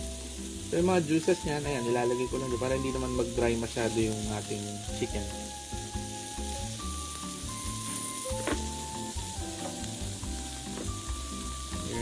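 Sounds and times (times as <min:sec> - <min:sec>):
bossa nova background music: 0:00.0 - 0:12.0
chicken sizzling on a grill: 0:00.0 - 0:12.0.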